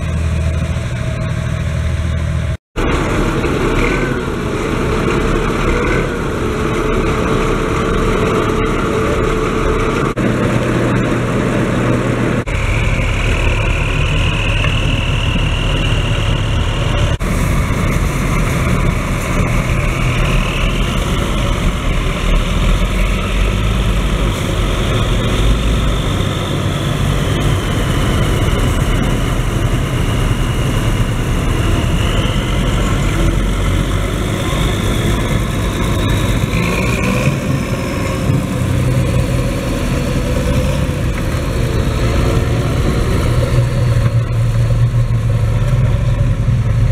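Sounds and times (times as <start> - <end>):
diesel tractor engines idling: 0.0 - 46.9.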